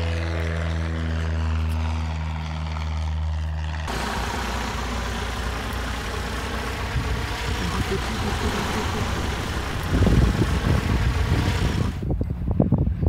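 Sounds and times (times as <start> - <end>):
airplane taxiing with broad hiss: 0.0 - 12.2
propeller airplane engine drone: 0.0 - 13.0.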